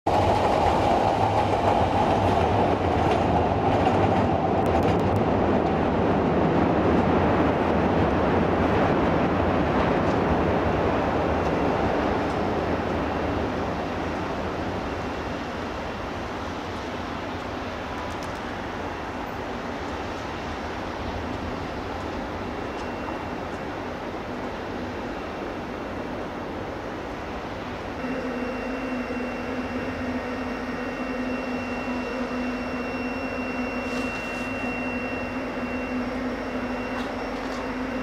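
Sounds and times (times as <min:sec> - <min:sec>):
elevated train wheels rolling on rails: 0:00.1 - 0:38.0.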